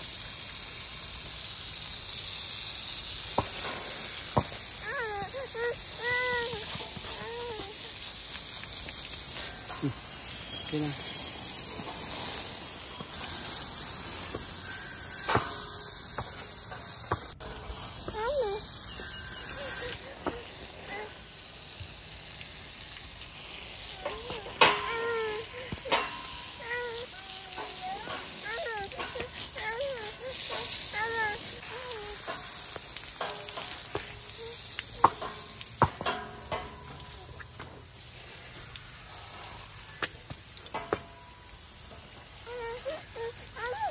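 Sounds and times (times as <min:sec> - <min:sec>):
water spraying from hose nozzle: 0:00.0 - 0:43.9.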